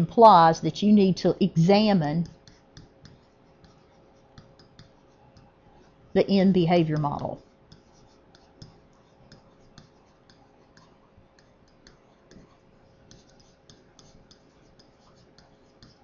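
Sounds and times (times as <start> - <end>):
faint steady hum: 0.0 - 16.0
stylus clicking and tapping: 1.7 - 16.0.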